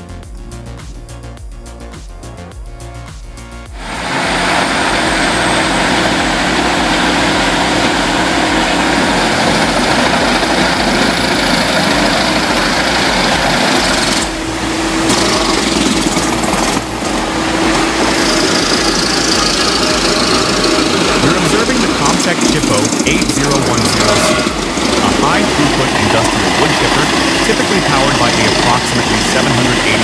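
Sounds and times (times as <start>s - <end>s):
heavy diesel machinery running: 3.6s - 30.0s.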